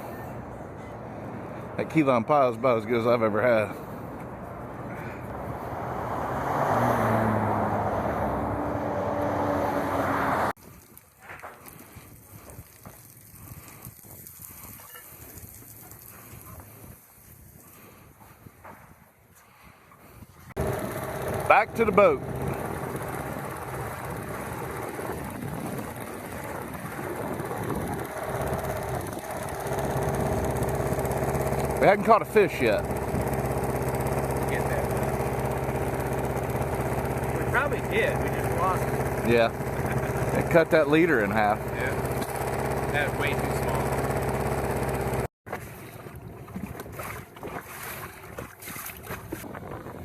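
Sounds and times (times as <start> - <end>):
outboard motor running: 0.0 - 10.5, 11.5 - 17.0, 20.6 - 50.0
vehicle engine and tyre noise: 0.0 - 10.6, 20.2 - 50.0.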